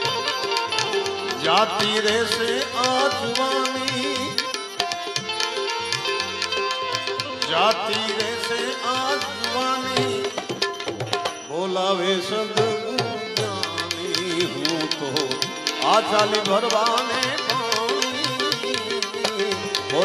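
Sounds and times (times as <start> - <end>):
man singing: 0.0 - 4.8, 6.9 - 10.7, 11.4 - 20.0
tabla strokes: 0.0 - 11.5, 12.4 - 20.0
harmonium chords: 0.0 - 20.0.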